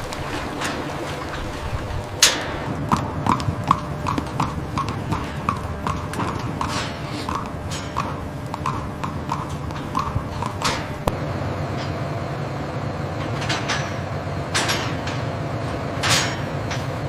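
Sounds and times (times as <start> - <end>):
hooves clopping: 0.0 - 17.0.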